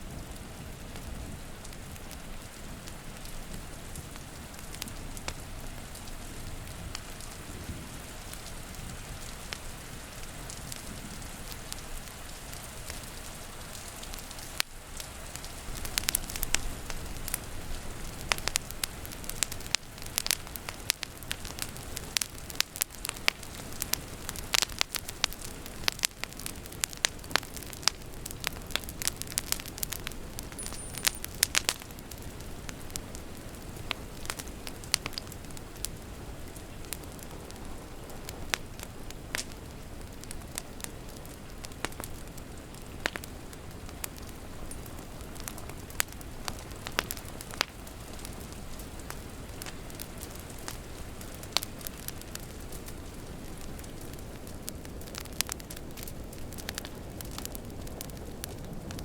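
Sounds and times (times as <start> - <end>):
rain hissing: 0.0 - 58.9
wood fire crackling and popping: 0.0 - 59.0.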